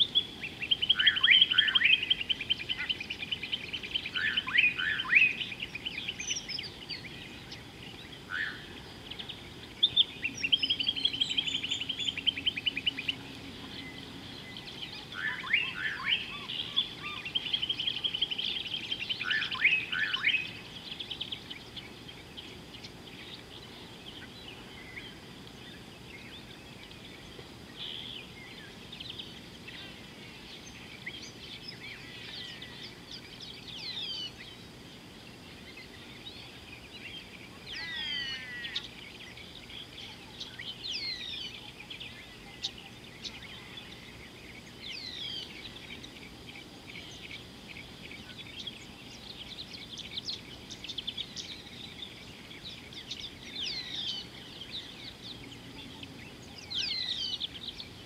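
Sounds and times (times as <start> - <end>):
birds chirping and calling: 0.0 - 58.0
steady hiss: 0.0 - 58.0.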